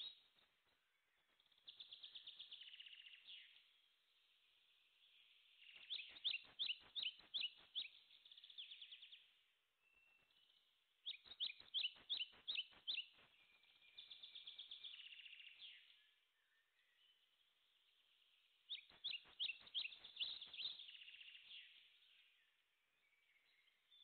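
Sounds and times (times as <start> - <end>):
songbird chirping and trilling: 0.0 - 24.0.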